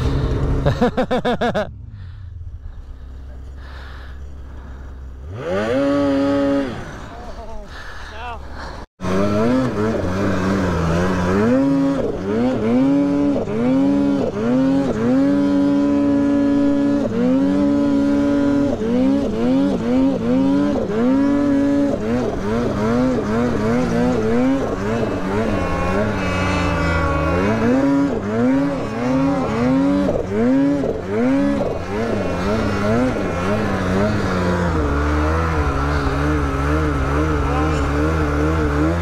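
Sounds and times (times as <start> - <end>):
snowmobile engine revving: 0.0 - 39.0.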